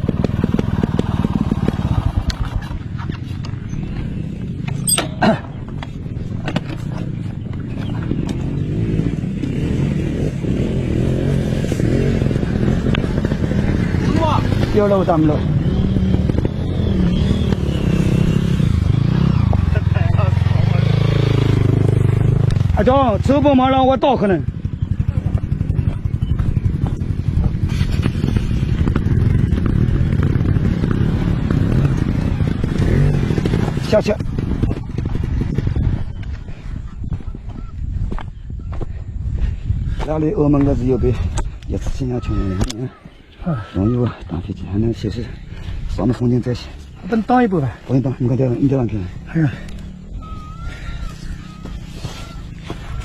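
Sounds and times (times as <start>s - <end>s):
off-road motorcycle engine: 0.0s - 53.0s.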